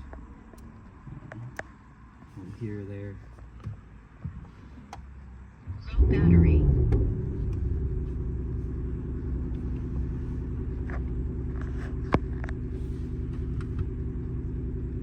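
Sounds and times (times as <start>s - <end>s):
car engine idling: 1.6s - 15.0s.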